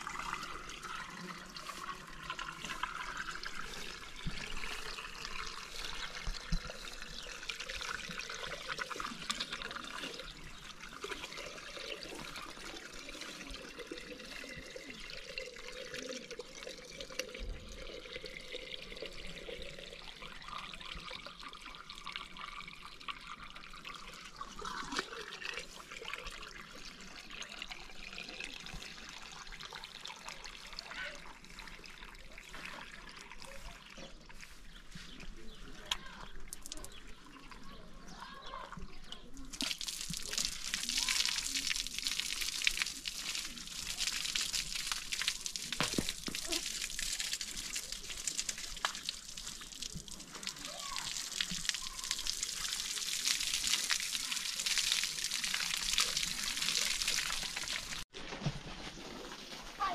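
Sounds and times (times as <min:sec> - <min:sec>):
water running and trickling: 0:00.0 - 0:58.1.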